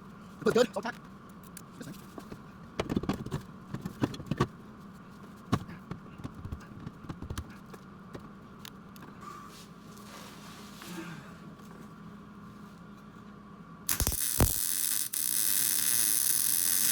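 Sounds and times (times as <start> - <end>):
steady electrical hum: 0.0 - 16.9.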